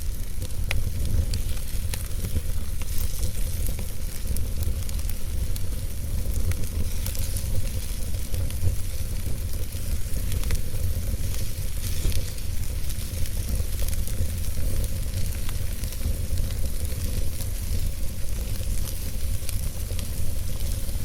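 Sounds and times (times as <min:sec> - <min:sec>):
logs crackling and popping: 0:00.0 - 0:21.0
low roar of flames: 0:00.0 - 0:21.0.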